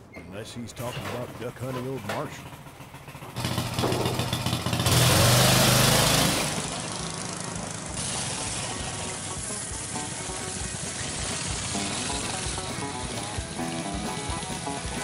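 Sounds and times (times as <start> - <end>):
go-kart engines running: 0.7 - 15.0.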